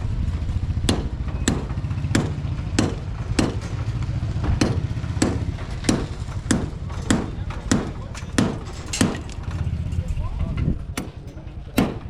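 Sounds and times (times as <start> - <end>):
low engine hum: 0.0 - 11.8
hammer strikes: 0.8 - 9.6, 10.9 - 12.0.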